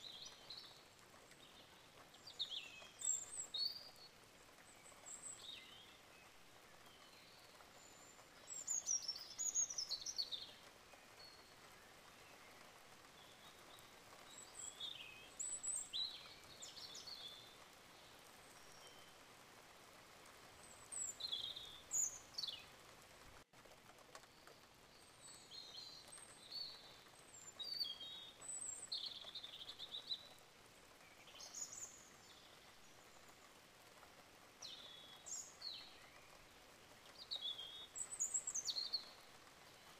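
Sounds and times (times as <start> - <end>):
small birds chirping: 0.0 - 19.3, 20.4 - 23.4, 24.0 - 39.9
faint steady hiss: 0.0 - 39.9.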